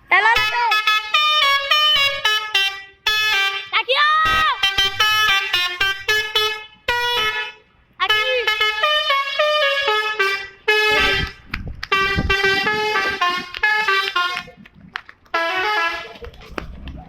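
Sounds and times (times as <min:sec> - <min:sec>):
multi-tone musical bus horn: 0:00.1 - 0:14.6, 0:15.3 - 0:16.2.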